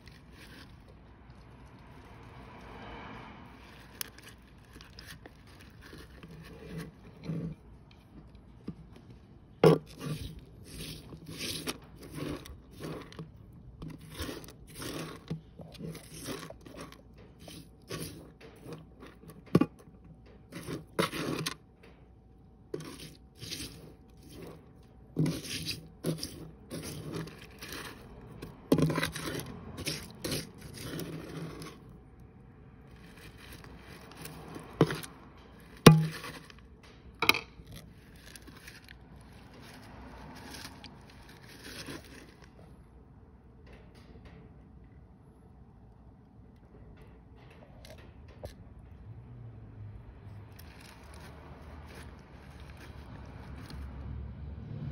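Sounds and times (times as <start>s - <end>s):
soil granules scraping in tub: 0.0s - 19.8s, 20.4s - 21.6s, 22.6s - 36.7s, 37.6s - 42.8s, 50.3s - 54.1s.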